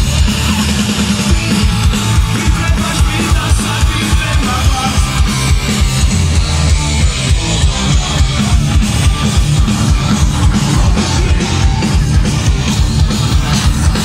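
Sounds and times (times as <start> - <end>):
bass guitar: 0.0 - 14.0
electric guitar: 0.0 - 14.0
fast steady drum beat: 0.0 - 14.0.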